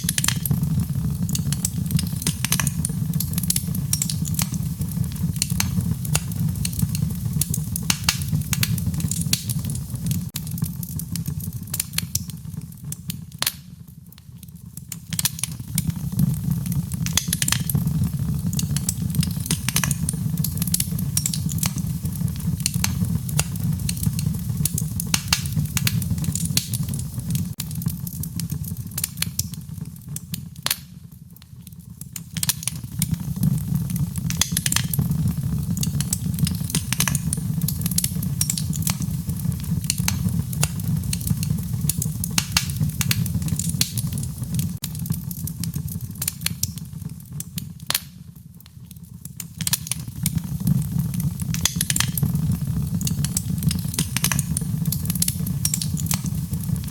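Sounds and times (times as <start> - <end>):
low rumble of burning: 0.0 - 56.9
sharp pops and snaps: 0.0 - 56.9
wood fire crackling: 0.0 - 56.9.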